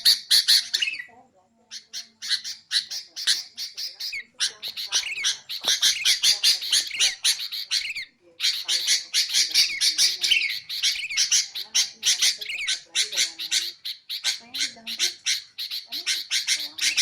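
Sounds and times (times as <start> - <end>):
bird chattering chirps: 0.0 - 17.0.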